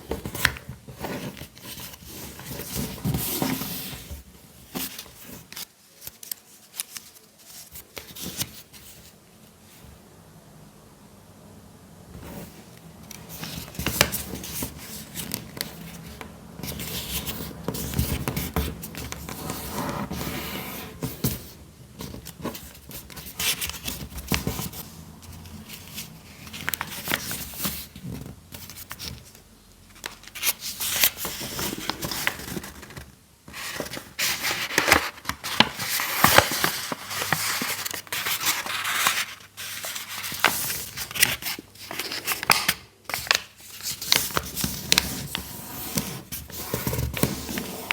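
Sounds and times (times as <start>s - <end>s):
paper rustling and crinkling: 0.0s - 9.2s, 12.2s - 47.9s.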